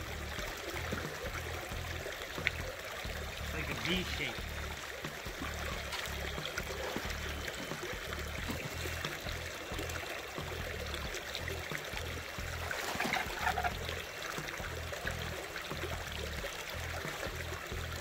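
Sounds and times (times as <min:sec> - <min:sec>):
creek water trickling: 0:00.0 - 0:18.0
music with pulsing bass beat: 0:00.0 - 0:18.0.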